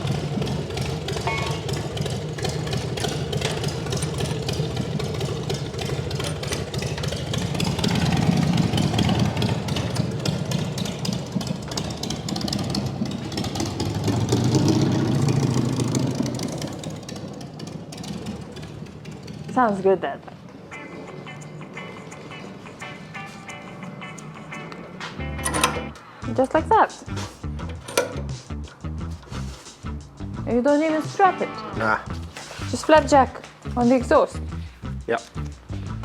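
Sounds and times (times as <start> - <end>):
motorcycle engine running: 0.0 - 20.4, 25.4 - 36.0.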